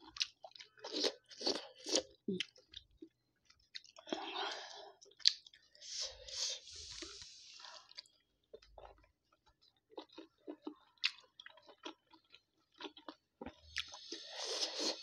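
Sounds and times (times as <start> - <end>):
chewing dumpling: 0.0 - 5.8, 6.7 - 15.0.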